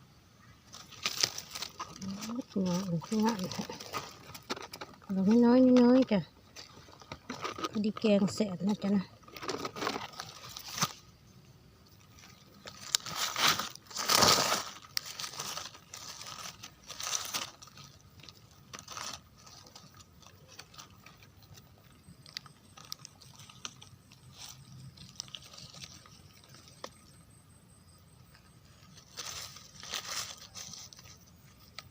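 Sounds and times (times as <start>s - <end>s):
dry leaves rustling and crunching: 0.7s - 11.1s, 12.0s - 27.4s, 28.3s - 31.9s.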